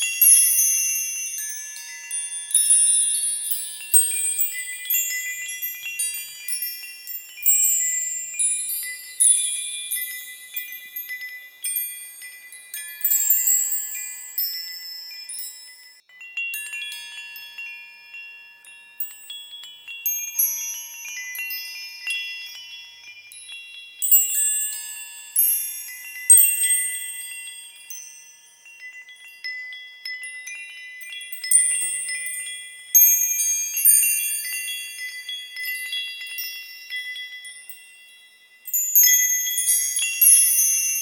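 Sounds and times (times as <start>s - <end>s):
small metal chimes ringing: 0.0s - 41.0s.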